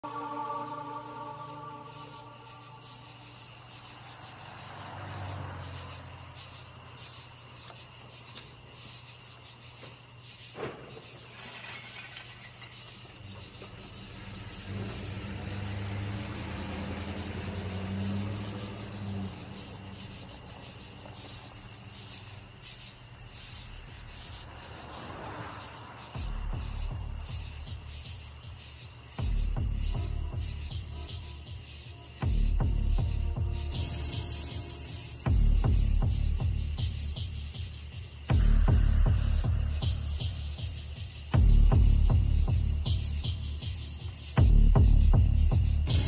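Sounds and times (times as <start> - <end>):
crickets chirping: 0.0 - 46.0.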